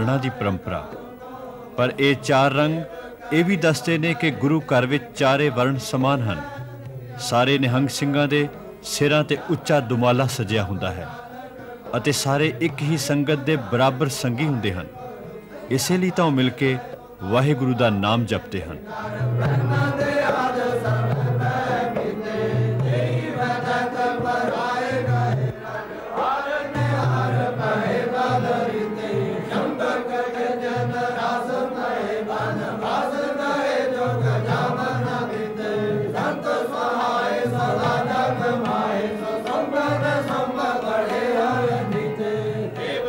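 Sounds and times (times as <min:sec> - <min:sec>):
men chanting a hymn: 0:00.0 - 0:43.0.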